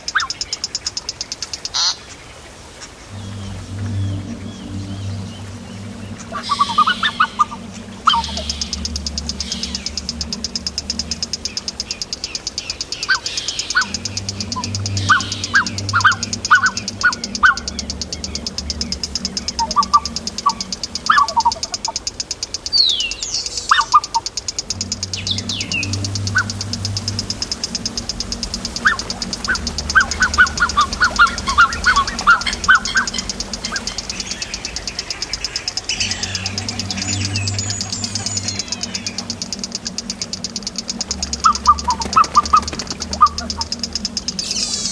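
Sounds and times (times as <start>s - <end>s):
bird chirps: 0.0s - 44.9s
low hum: 0.0s - 44.9s
gliding whistles: 3.1s - 44.9s
high fast-pulsing trill: 3.1s - 44.9s.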